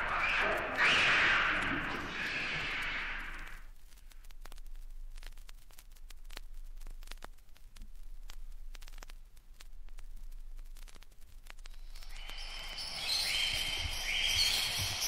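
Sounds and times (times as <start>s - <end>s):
vinyl crackles and clicks: 0.0s - 15.0s.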